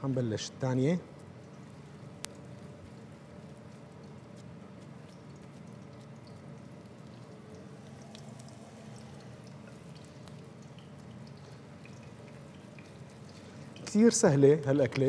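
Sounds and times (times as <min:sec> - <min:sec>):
patties sizzling in oil: 0:01.4 - 0:14.2.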